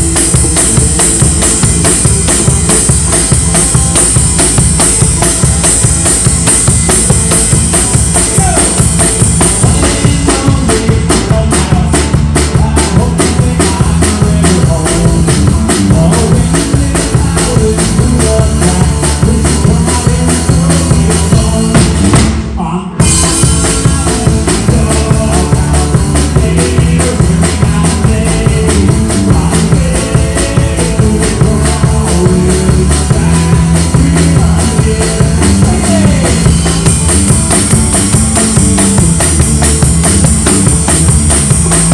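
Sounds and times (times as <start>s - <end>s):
drum kit beat: 0.0s - 41.9s
live rock band playing: 0.0s - 41.9s.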